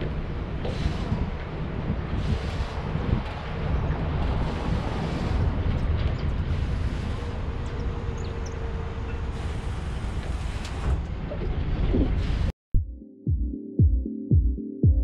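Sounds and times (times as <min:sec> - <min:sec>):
wind rumbling on microphone: 0:00.0 - 0:12.5.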